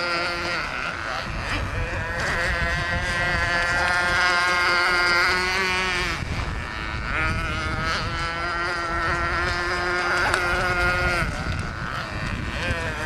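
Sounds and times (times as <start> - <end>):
motorboat engine at high revs: 0.0 - 13.0.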